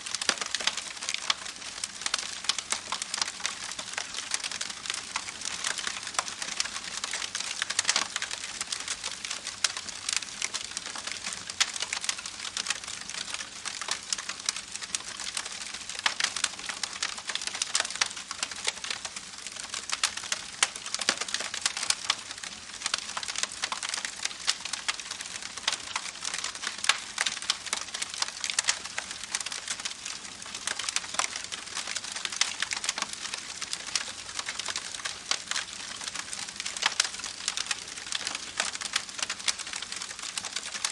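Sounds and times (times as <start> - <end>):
rain pattering on hard surface: 0.0 - 40.9.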